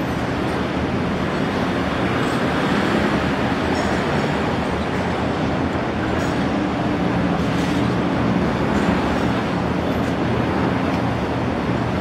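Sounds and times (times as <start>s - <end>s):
broad rushing noise: 0.0s - 12.0s.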